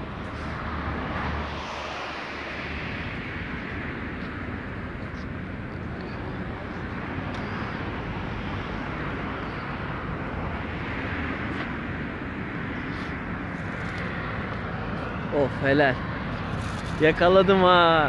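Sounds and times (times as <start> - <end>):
flickering low rumble: 0.0 - 15.3.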